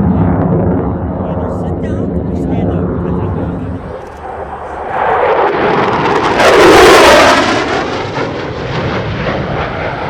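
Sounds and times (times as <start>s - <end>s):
fighter jet roaring past: 0.0s - 10.0s.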